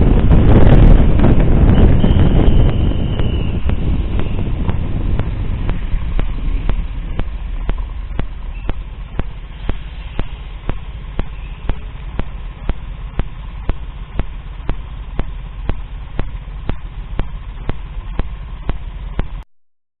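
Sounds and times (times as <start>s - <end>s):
sharp clicks: 2.4s - 19.4s.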